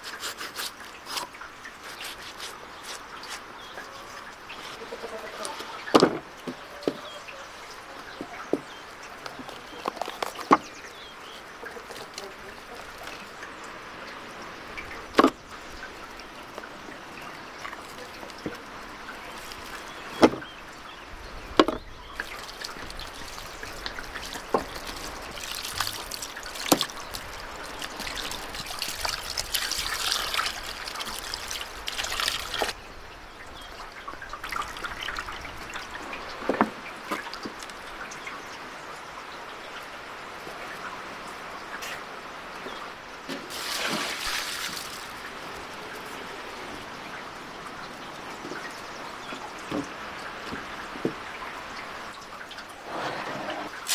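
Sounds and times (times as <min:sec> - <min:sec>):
water splashing and trickling: 0:00.0 - 0:53.9.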